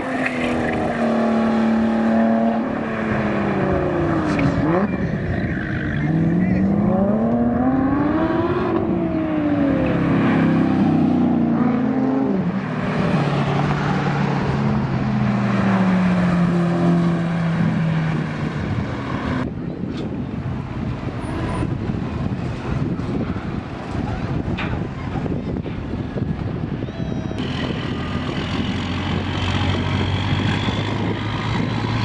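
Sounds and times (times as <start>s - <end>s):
aircraft engines passing overhead: 0.0s - 32.0s
wind: 0.0s - 32.0s.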